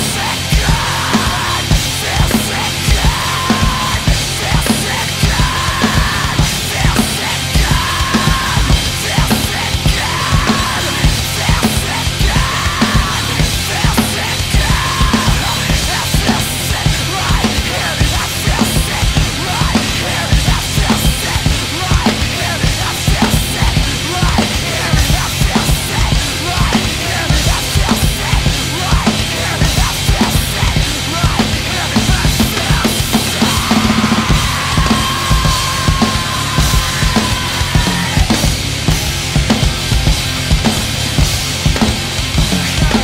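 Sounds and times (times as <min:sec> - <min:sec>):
drum kit played hard: 0:00.0 - 0:43.0
rock music with distorted guitars: 0:00.0 - 0:43.0.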